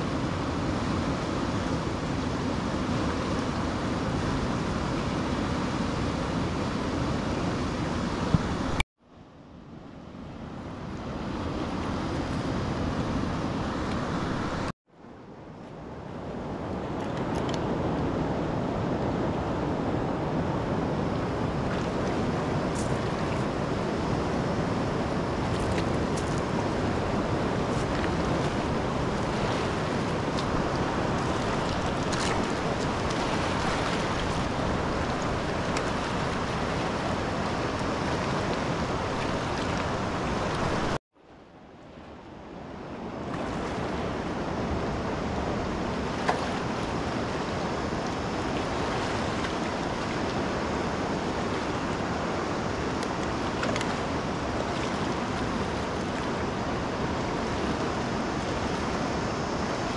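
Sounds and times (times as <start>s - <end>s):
steady rushing noise: 0.0s - 8.8s, 11.2s - 14.7s, 15.4s - 59.9s.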